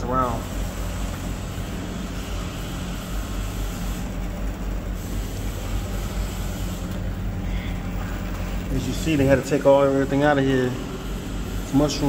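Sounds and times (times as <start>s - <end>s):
fans blowing air: 0.0s - 12.0s
refrigeration unit humming: 0.0s - 12.0s.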